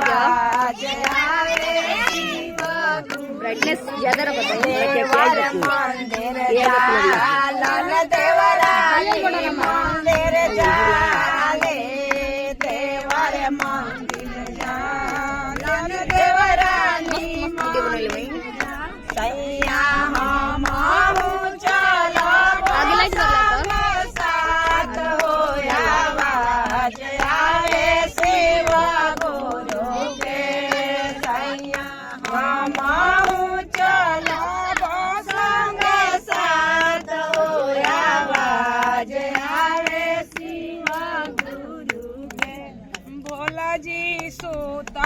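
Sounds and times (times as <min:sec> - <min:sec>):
hand-clapping: 0:00.0 - 0:45.0
voices singing devotional song: 0:00.0 - 0:45.0.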